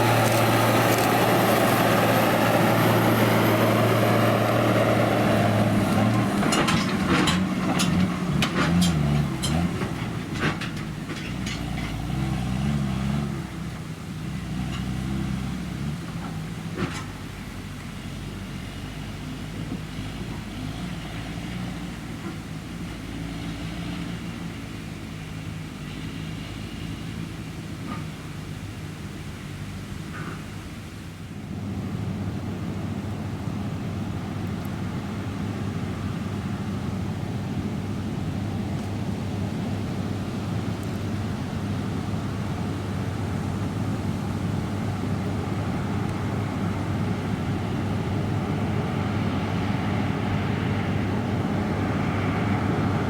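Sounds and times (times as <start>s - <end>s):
combine harvester engine hum: 0.0s - 53.0s.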